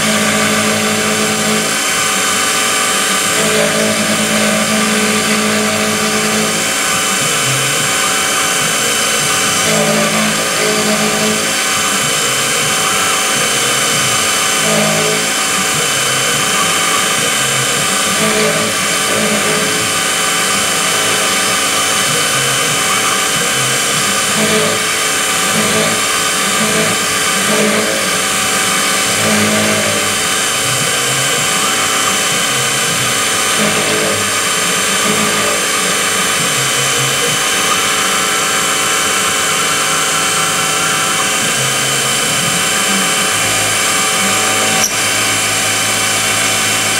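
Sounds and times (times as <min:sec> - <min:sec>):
milling machine spindle whine: 0:00.0 - 0:46.9.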